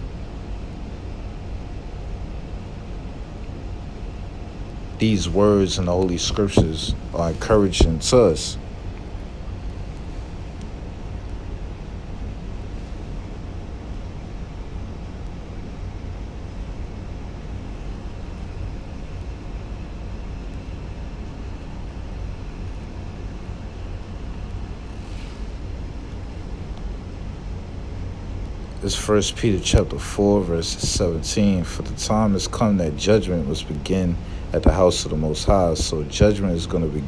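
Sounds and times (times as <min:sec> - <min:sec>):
air conditioning blowing from vent: 0:00.0 - 0:37.0
faint steady hum: 0:00.0 - 0:37.0.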